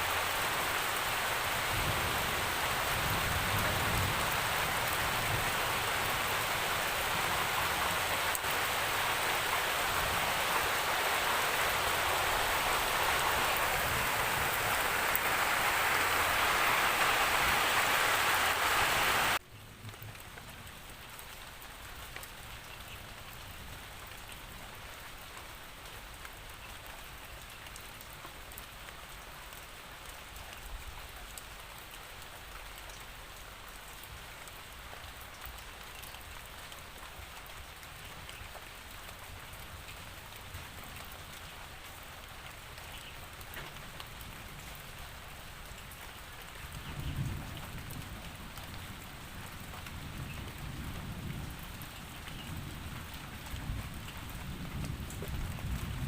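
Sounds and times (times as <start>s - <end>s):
heavy steady rain: 0.0s - 56.0s
light rain with separate drops: 0.0s - 56.0s.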